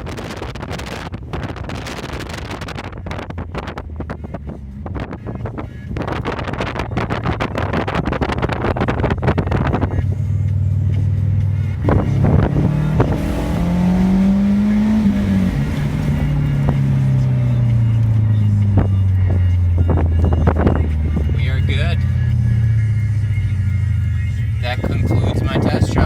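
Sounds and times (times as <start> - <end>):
wind buffeting microphone: 0.0 - 10.4, 11.7 - 22.0, 24.7 - 26.0
car engine drone: 0.0 - 26.0.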